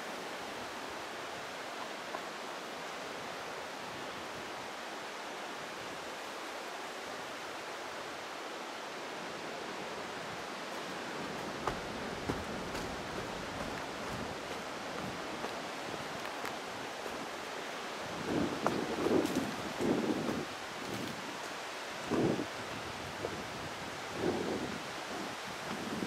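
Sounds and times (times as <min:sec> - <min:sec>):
water rushing: 0:00.0 - 0:23.4.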